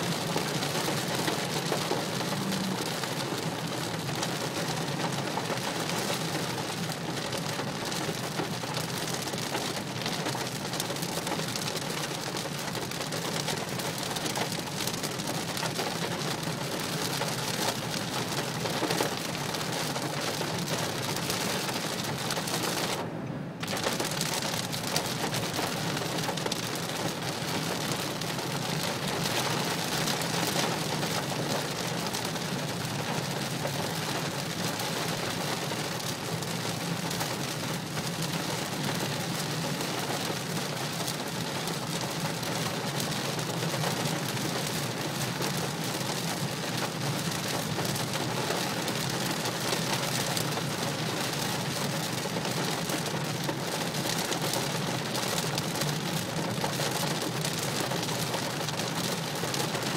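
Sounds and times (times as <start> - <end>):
heavy rain on car roof: 0.0 - 59.9
tyre noise on wet road: 0.0 - 59.9.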